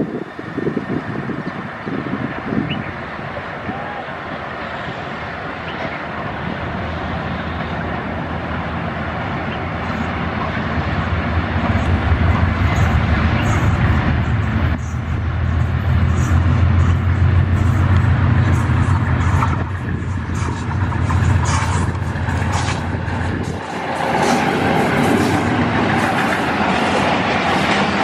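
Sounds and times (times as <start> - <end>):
locomotive engine deep drone: 0.0 - 28.0
train rumbling on track: 0.0 - 28.0.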